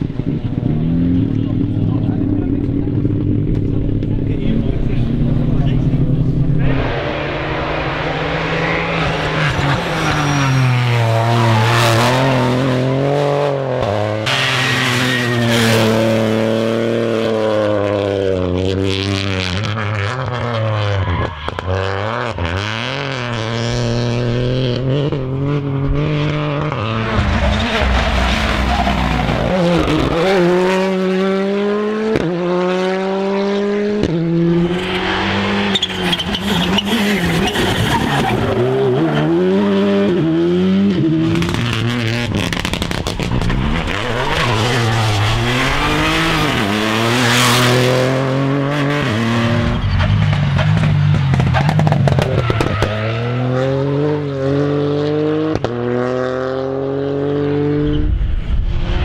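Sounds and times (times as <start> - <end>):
rally car engines revving hard: 0.0 - 59.0.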